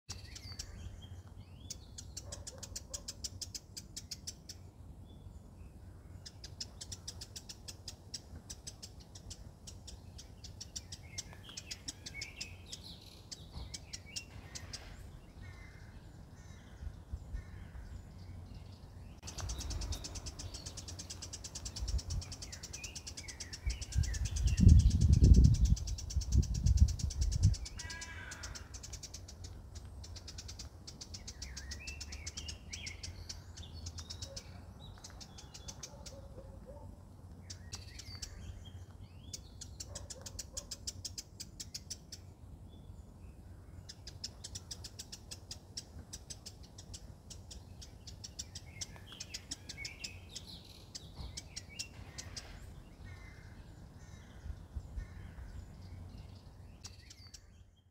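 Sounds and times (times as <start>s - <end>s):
birds chirping: 0.1s - 57.9s.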